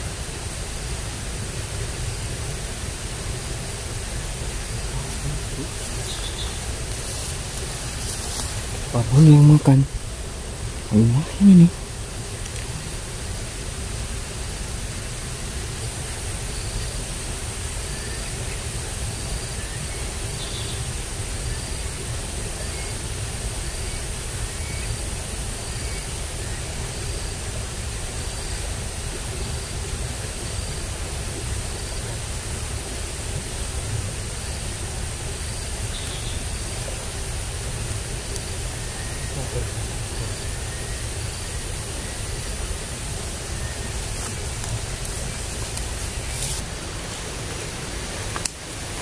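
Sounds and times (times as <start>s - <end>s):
constant high whine: 0.0s - 49.0s
rushing noise with low rumble: 0.0s - 49.0s.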